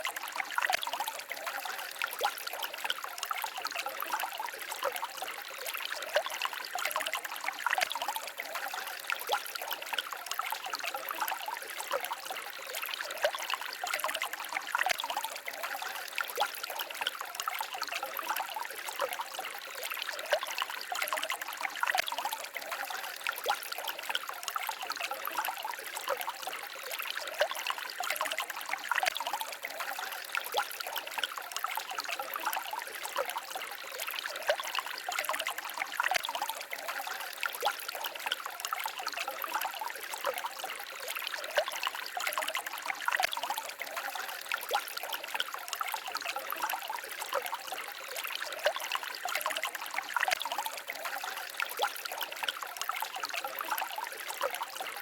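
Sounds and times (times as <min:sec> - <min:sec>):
stream babbling and trickling: 0:00.0 - 0:55.0.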